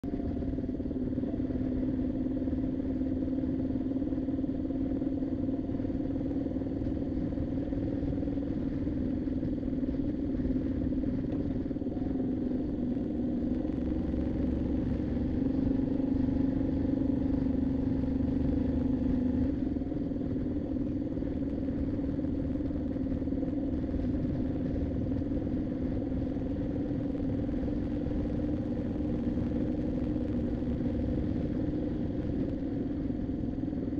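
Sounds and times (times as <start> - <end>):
motorcycle engine running: 0.0 - 33.9
wind and road noise: 0.0 - 33.9.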